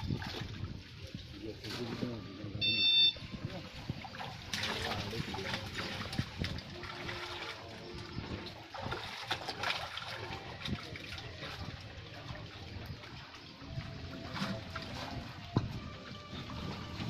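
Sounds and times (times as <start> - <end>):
water sloshing and splashing: 0.0 - 17.0
water trickling: 0.0 - 17.0.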